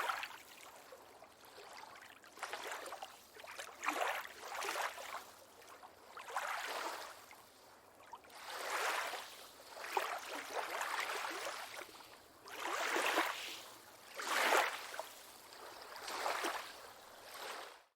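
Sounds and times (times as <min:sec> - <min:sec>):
small waves lapping: 0:00.0 - 0:17.9.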